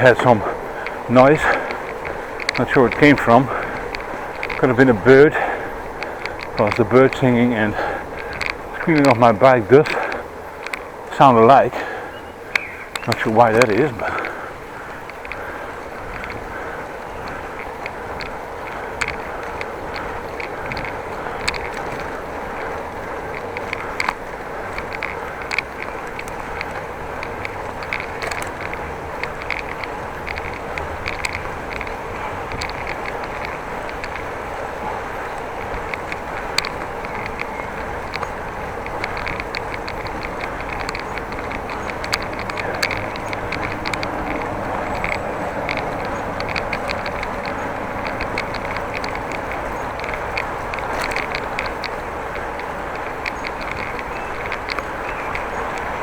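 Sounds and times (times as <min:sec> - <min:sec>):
bicycle rolling and wind noise: 0:00.0 - 0:56.0
bike clicking and rattling: 0:00.0 - 0:56.0.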